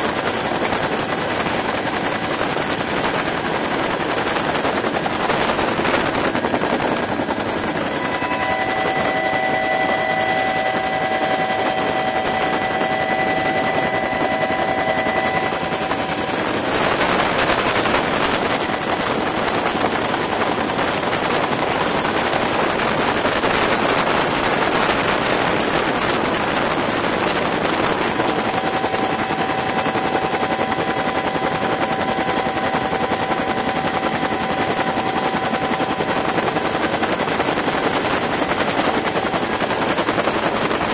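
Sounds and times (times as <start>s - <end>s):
steady whining tones: 0.0s - 40.4s
helicopter rotor and turbine din: 0.0s - 40.9s.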